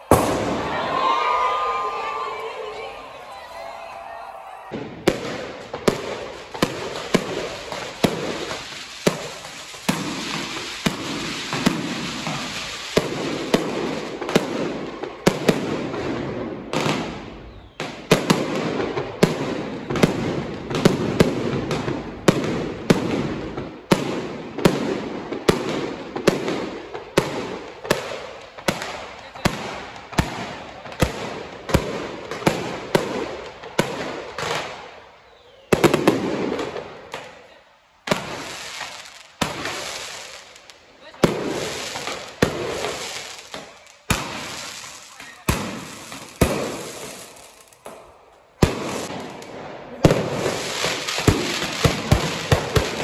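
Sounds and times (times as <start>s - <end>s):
fireworks bangs: 0.0s - 37.4s, 38.0s - 53.0s.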